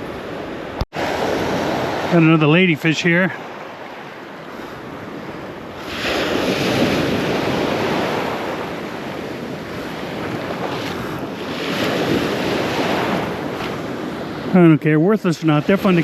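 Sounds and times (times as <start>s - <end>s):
wind buffeting microphone: 0.0s - 14.6s
surf breaking and washing in: 0.0s - 16.0s.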